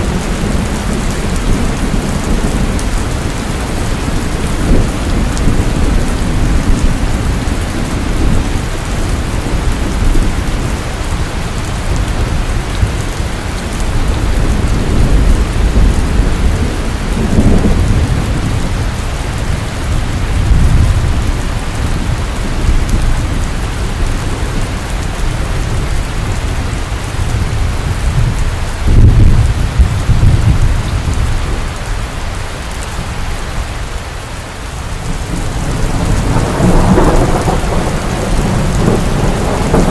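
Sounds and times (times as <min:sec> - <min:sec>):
thunder rumbling: 0:00.0 - 0:33.6, 0:34.9 - 0:39.9
rain falling: 0:00.0 - 0:39.9.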